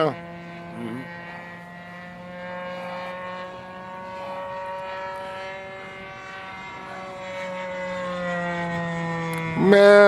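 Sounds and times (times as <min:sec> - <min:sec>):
model plane engine droning: 0:00.0 - 0:10.0.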